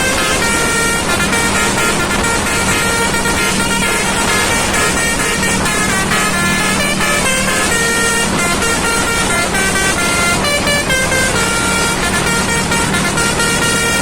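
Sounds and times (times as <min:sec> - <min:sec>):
musical air horn playing a tune: 0:00.0 - 0:14.0
road and engine noise: 0:00.0 - 0:14.0.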